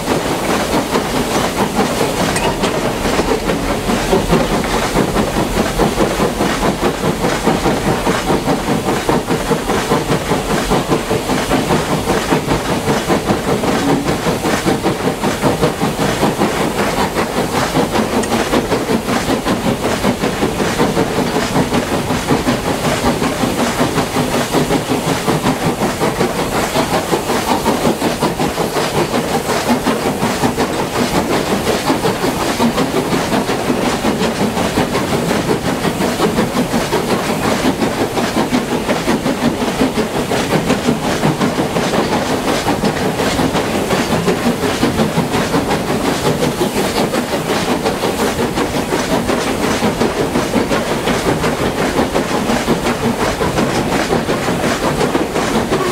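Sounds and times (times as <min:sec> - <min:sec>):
steam locomotive exhaust beats: 0:00.0 - 0:55.9
wheels clattering on rails: 0:00.0 - 0:55.9.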